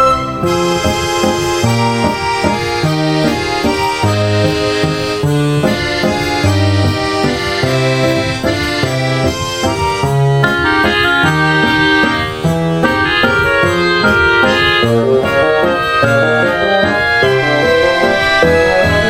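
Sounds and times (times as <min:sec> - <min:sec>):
lively accordion tune: 0:00.0 - 0:19.0
steady bass line: 0:00.0 - 0:19.0.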